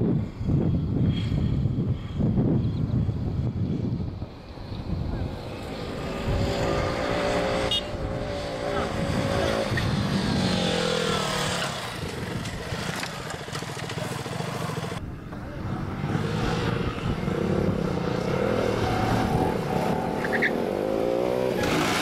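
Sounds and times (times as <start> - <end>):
motorcycle engines revving: 0.1 - 22.0.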